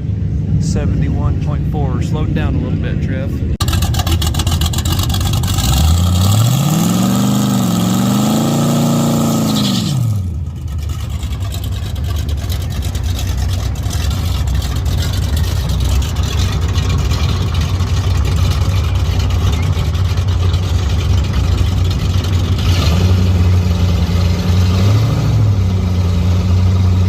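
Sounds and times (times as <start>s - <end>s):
low engine rumble: 0.0s - 8.0s, 9.9s - 27.0s
drag car accelerating: 0.0s - 27.0s.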